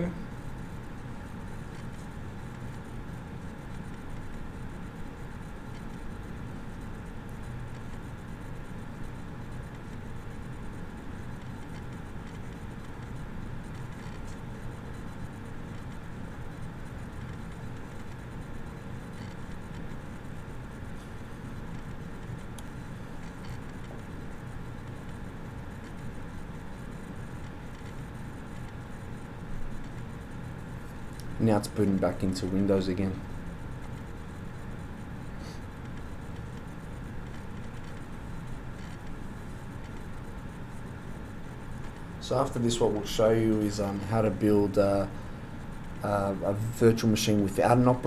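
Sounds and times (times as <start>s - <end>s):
low background hum and hiss: 0.0s - 48.0s.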